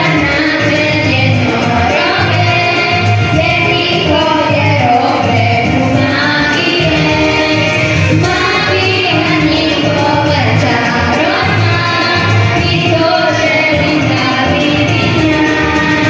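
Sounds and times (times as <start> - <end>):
girl singing into a microphone: 0.0 - 16.0.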